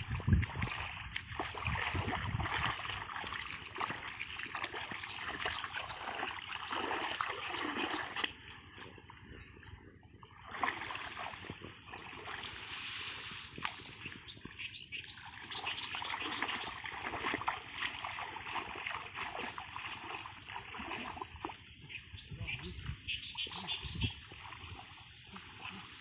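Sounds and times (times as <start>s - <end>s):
muddy water splashing: 0.0s - 26.0s.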